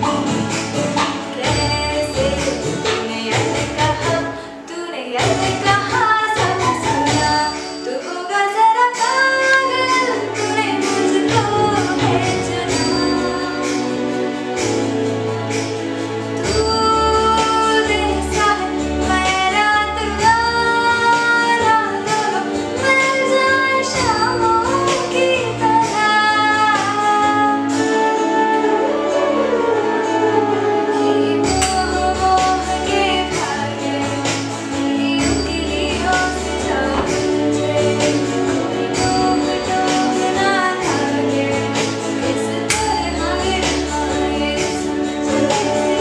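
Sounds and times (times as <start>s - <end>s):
backing music with bass line: 0.0s - 4.6s, 9.0s - 46.0s
woman singing: 0.0s - 14.4s, 16.3s - 46.0s.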